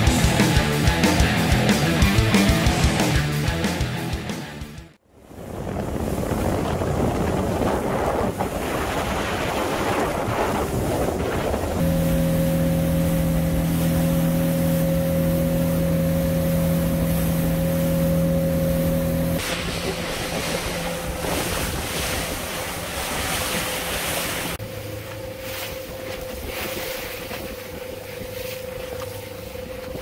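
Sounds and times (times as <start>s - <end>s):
boat engine hum: 0.0s - 30.0s
water splashing: 5.6s - 30.0s.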